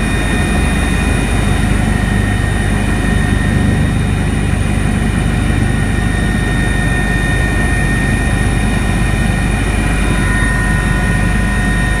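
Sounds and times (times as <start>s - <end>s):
helicopter engine and rotor rumble: 0.0s - 12.0s
steady high whine: 0.0s - 12.0s.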